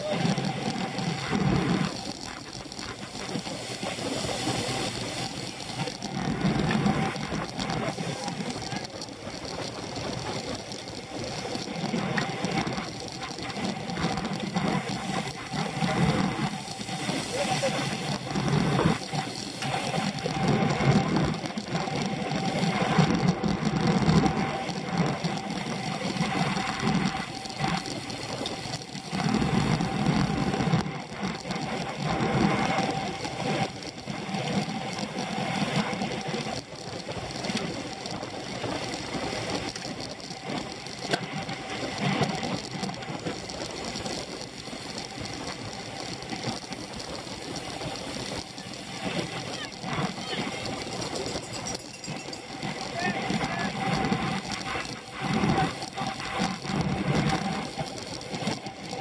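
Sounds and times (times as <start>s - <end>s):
bicycle chain and tyres whirring: 0.0s - 59.0s
wind noise: 0.0s - 59.0s.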